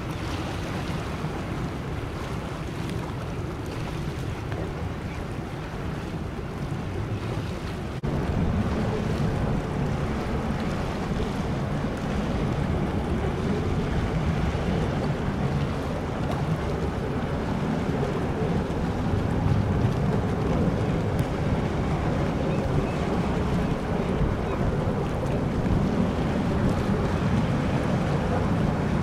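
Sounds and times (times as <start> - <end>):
ferry engine low rumble: 0.0 - 29.0
wind buffeting microphone: 0.0 - 29.0.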